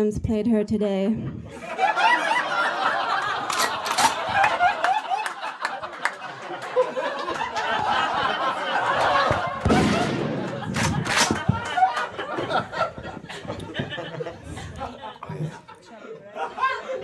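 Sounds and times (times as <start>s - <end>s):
audience laughing: 1.5s - 17.0s.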